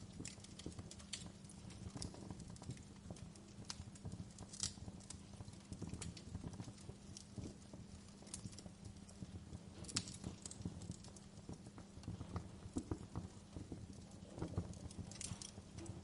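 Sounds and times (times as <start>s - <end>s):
fireplace crackling: 0.0s - 16.0s.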